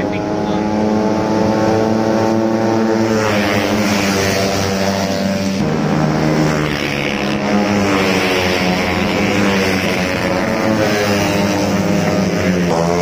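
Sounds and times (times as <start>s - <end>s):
scooter engines racing past: 0.0s - 13.0s.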